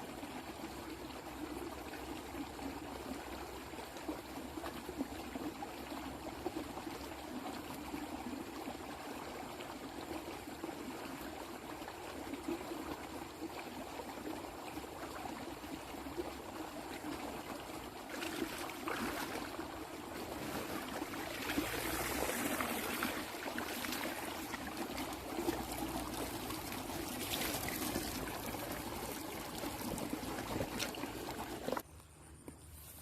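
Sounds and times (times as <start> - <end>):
water running and trickling: 0.4 - 31.8.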